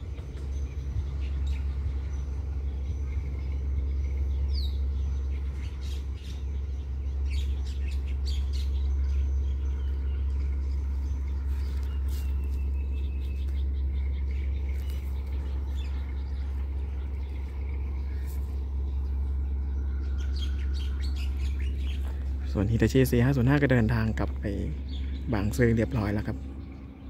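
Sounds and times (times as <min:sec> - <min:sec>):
small birds chirping: 0:00.0 - 0:27.0
steady low rumble: 0:00.0 - 0:27.0.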